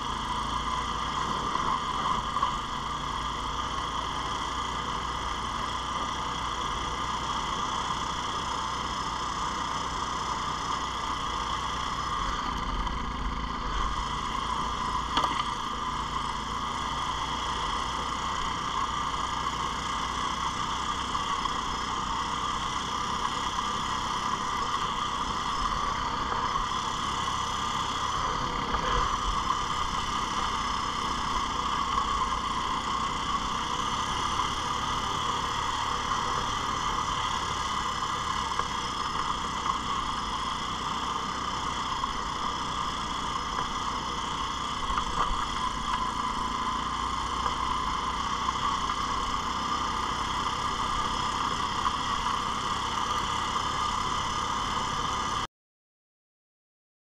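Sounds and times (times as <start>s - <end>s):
atv engine running: 0.0s - 55.5s.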